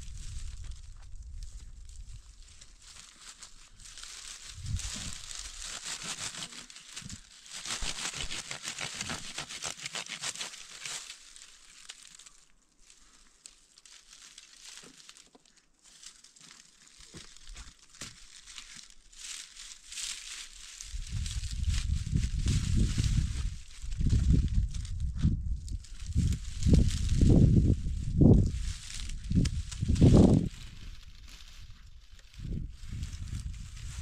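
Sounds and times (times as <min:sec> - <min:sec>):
dry material crinkling and rustling: 0:00.1 - 0:24.8, 0:25.9 - 0:34.0.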